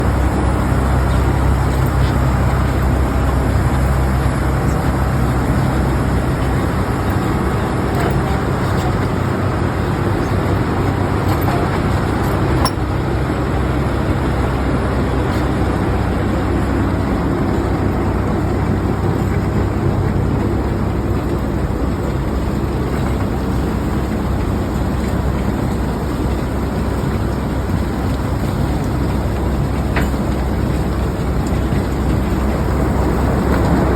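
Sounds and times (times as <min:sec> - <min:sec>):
low diesel engine drone: 0:00.0 - 0:33.9.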